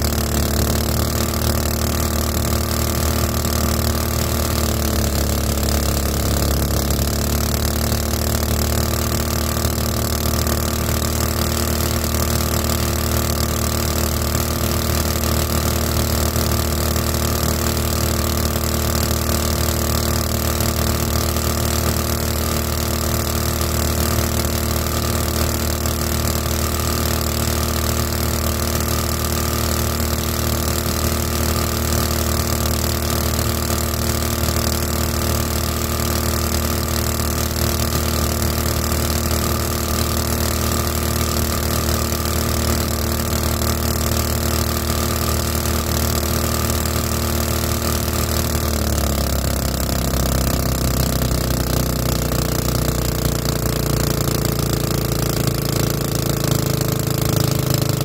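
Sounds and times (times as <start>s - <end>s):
small boat motor running: 0.0s - 58.0s.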